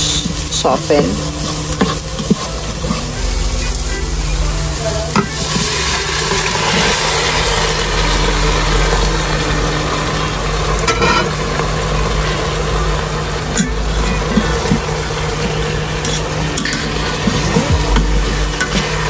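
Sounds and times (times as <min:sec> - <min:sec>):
low hum: 0:00.0 - 0:15.4, 0:17.5 - 0:19.0
meat sizzling in oil: 0:00.0 - 0:19.0.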